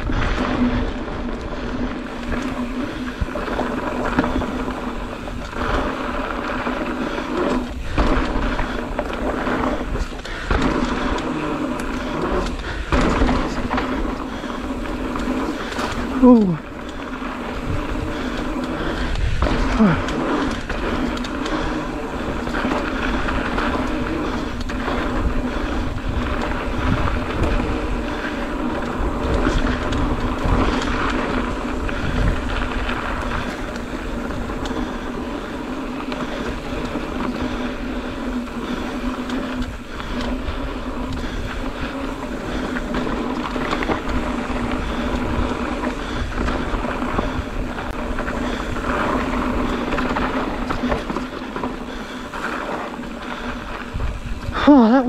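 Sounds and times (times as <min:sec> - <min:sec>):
bike hub ticking buzz: 0:00.0 - 0:55.0
bike tyres rolling and rattling: 0:00.0 - 0:55.0
wind on microphone: 0:00.0 - 0:55.0.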